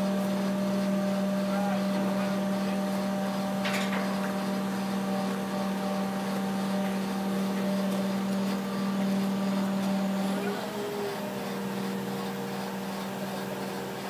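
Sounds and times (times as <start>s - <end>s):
crane engine and hydraulics humming: 0.0s - 14.0s.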